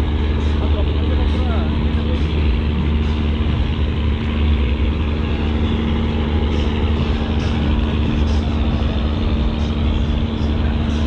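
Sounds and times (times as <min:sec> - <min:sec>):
ship diesel engines rumbling: 0:00.0 - 0:11.0.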